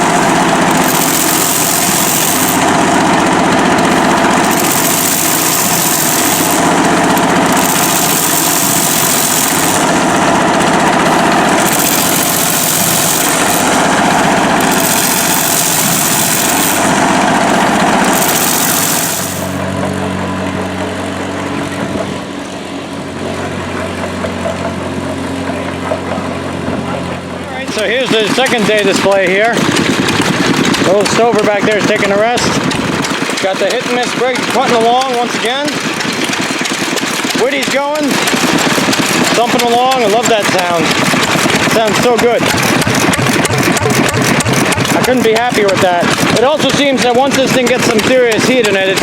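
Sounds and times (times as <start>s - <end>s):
antique engines running: 0.0s - 49.0s.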